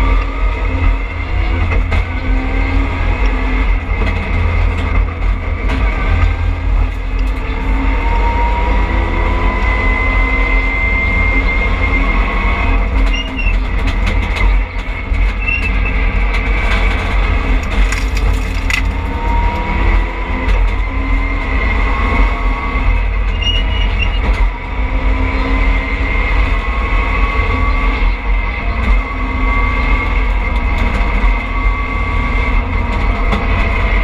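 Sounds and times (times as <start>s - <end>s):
car engine and road rumble: 0.0s - 34.0s
high engine whine: 0.0s - 34.0s.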